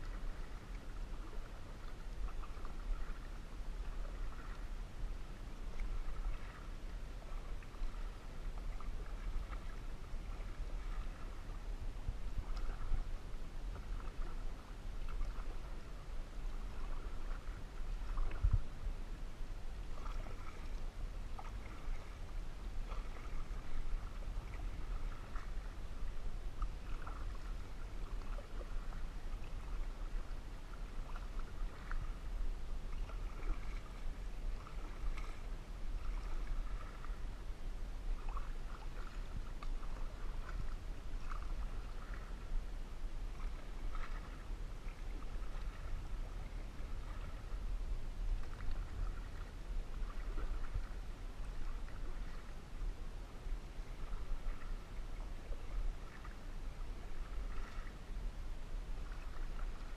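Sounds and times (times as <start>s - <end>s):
paddle dipping in water: 0.0s - 59.9s
steady low rumble: 0.0s - 59.9s.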